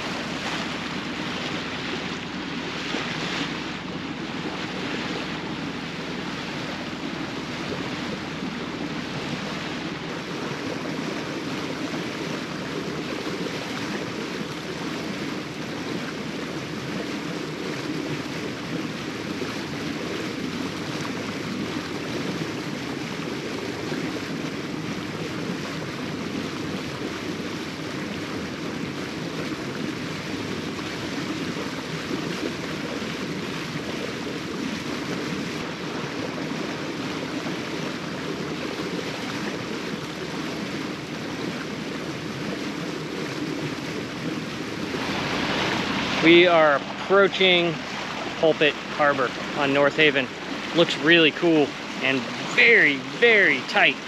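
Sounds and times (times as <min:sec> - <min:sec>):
wind on microphone: 0:00.0 - 0:50.8
boat engine droning: 0:00.0 - 0:54.0
water rushing along hull: 0:00.0 - 0:54.0.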